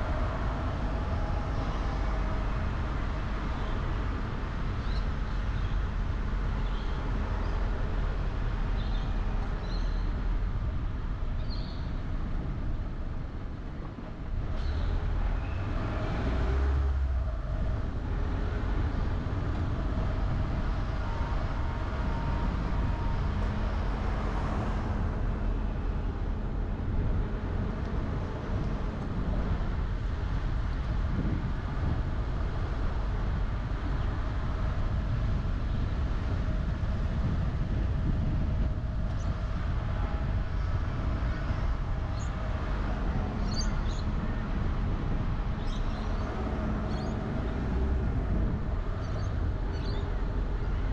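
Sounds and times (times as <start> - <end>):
road and tyre noise: 0.0 - 50.9.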